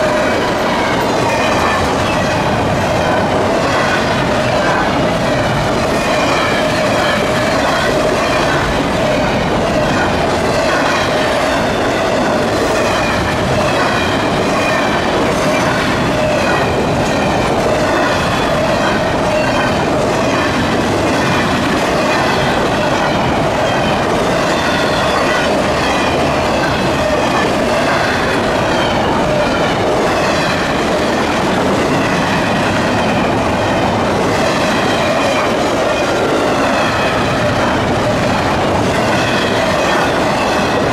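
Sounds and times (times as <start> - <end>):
train wheels clicking on rails: 0.0 - 40.9.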